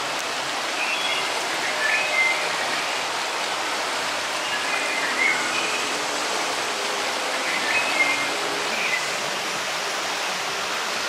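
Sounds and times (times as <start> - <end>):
rushing whitewater: 0.0 - 11.0.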